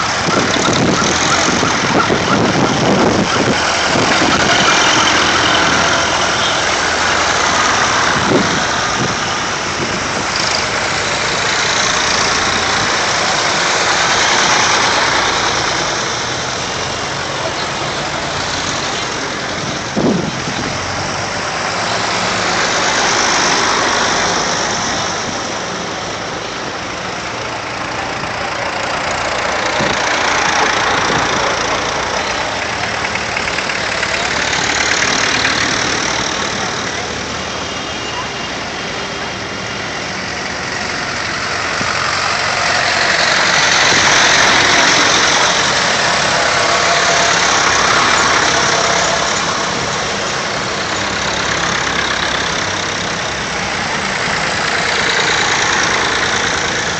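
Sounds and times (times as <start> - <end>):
tractor engines driving past: 0.0 - 56.9.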